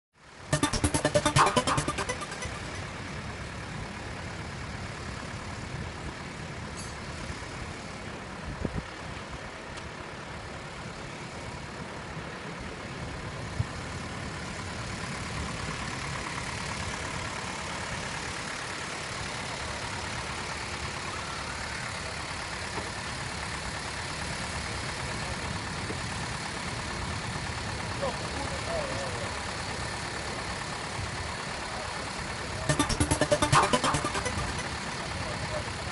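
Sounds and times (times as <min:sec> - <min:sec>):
diesel locomotive engine idling: 0:02.7 - 0:32.7.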